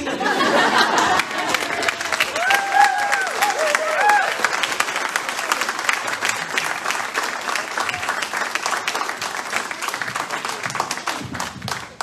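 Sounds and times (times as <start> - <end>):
crowd applauding: 0.3 - 12.0.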